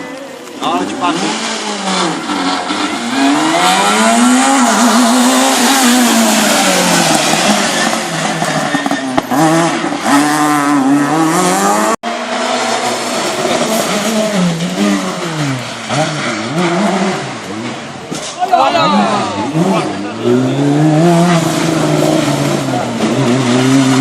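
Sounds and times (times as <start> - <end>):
rally car engine revving: 0.0 - 24.0
tyre and road noise: 0.0 - 24.0.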